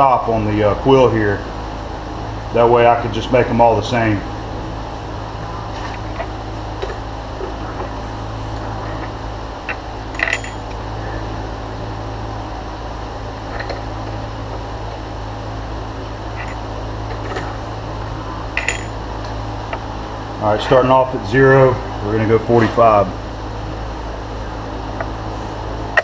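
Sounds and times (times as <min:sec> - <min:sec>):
shop fans humming: 0:00.0 - 0:26.0.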